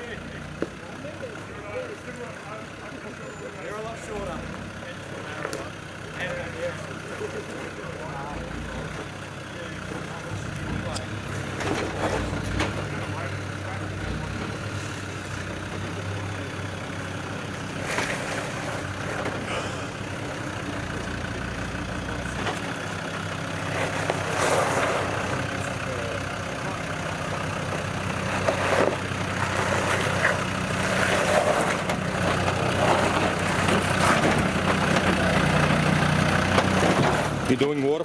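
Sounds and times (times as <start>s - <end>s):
diesel engine running at low revs: 0.0s - 38.0s.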